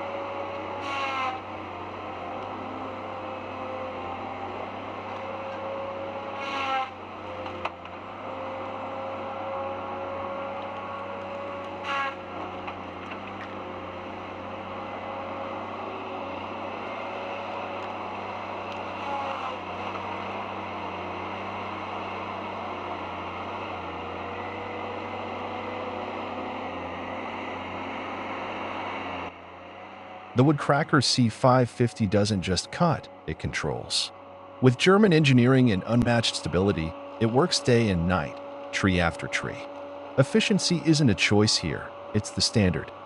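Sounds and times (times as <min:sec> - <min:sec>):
heavy machine engine and hydraulics: 0:00.0 - 0:43.0
loud engine bursts: 0:00.0 - 0:43.0.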